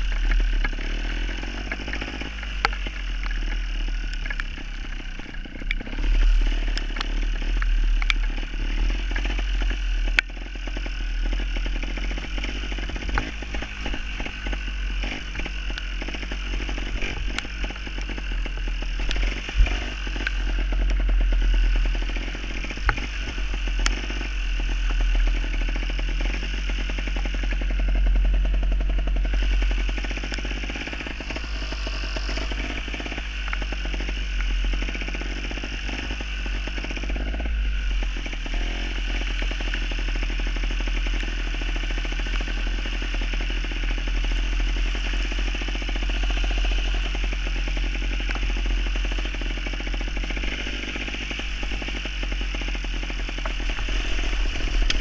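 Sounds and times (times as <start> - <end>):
motorcycle engine buzzing: 0.0 - 55.0.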